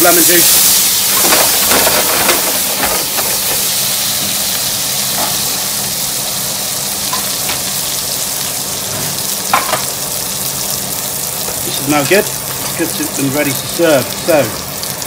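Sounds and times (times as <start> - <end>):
fish sizzling in frying pan: 0.0 - 15.0.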